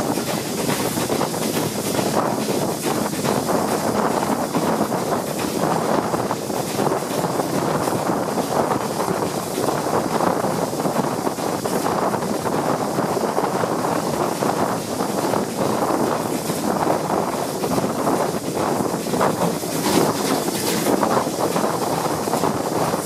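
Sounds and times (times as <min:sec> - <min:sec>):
train running noise: 0:00.0 - 0:23.0
wind rushing over microphone: 0:00.0 - 0:23.0.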